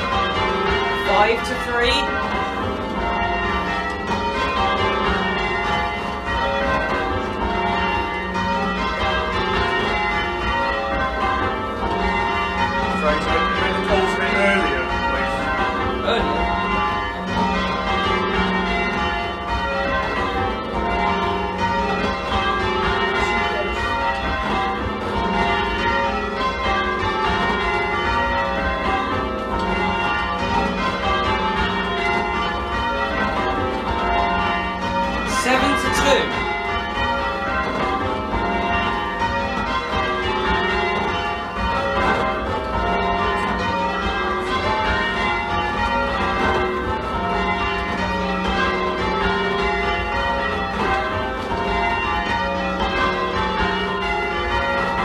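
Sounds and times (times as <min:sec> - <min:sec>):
church bells change ringing: 0:00.0 - 0:55.0.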